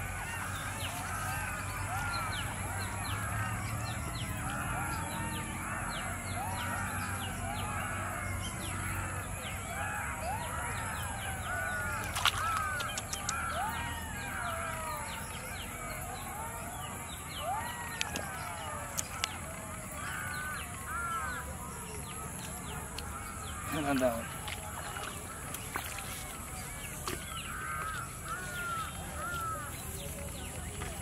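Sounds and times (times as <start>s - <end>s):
chorus of animal calls: 0.0s - 31.0s.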